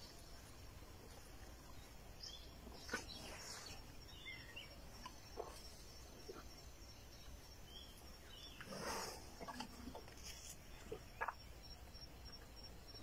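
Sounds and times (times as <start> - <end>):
faint insect drone: 0.0 - 13.0.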